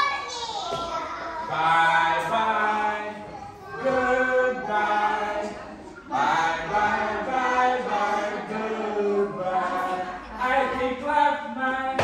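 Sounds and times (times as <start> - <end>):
children singing in unison: 1.2 - 12.0.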